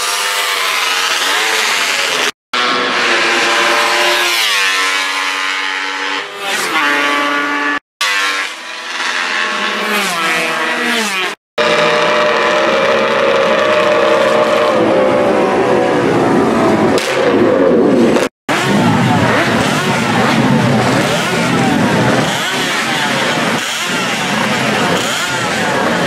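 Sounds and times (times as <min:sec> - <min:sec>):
motorcycle engine steady pitch: 0:00.0 - 0:26.0
racing motorcycles passing by: 0:00.0 - 0:26.0.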